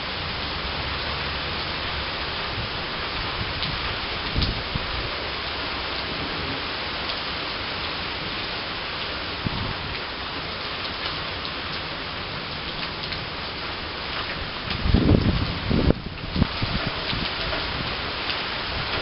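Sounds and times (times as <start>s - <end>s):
raindrops striking close by: 0.0s - 19.0s
steady rain falling: 0.0s - 19.0s.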